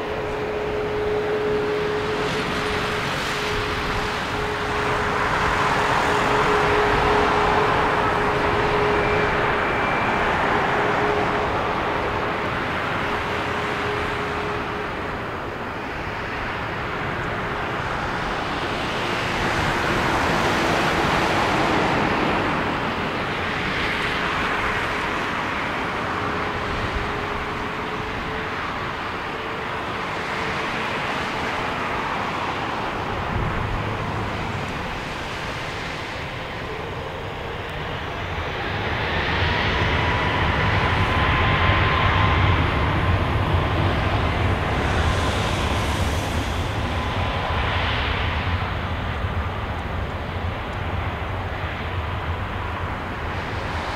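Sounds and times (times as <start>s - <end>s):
jet engines whining: 0.0s - 53.9s.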